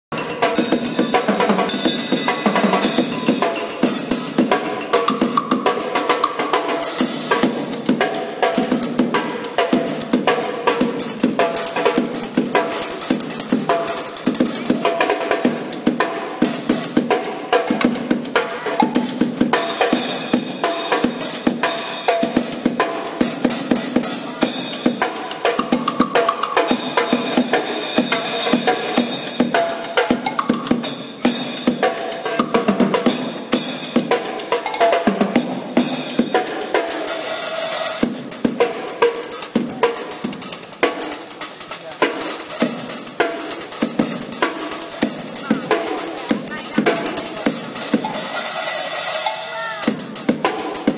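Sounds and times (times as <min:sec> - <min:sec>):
drum kit fast beat: 0:00.1 - 0:50.9.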